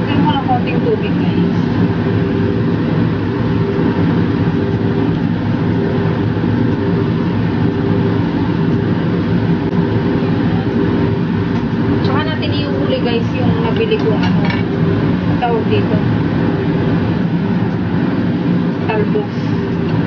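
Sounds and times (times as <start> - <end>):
loud mechanical hum with hiss: 0.0 - 20.0.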